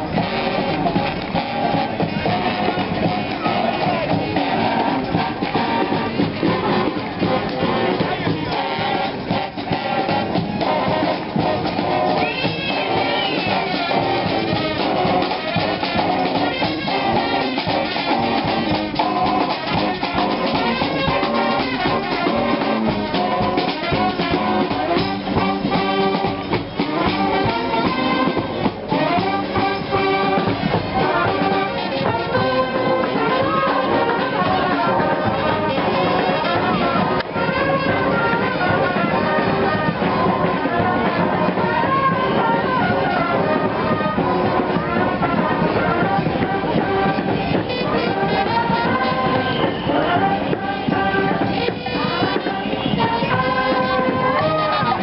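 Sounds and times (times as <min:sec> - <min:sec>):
brass band horns: 0:00.0 - 0:55.0
steady drum beat: 0:00.0 - 0:55.0.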